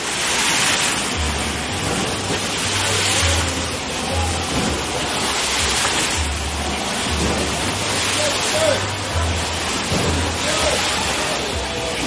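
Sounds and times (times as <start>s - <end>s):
waves crashing against pool wall: 0.0s - 12.0s.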